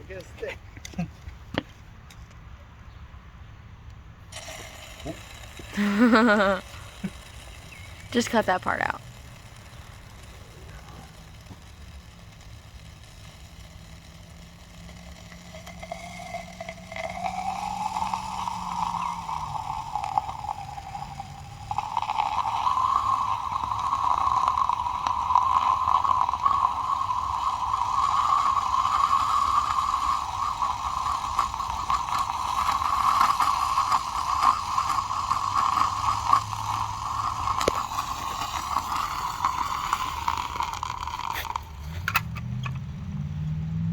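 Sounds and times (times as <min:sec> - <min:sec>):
whistling scream with hiss: 0:04.4 - 0:41.0.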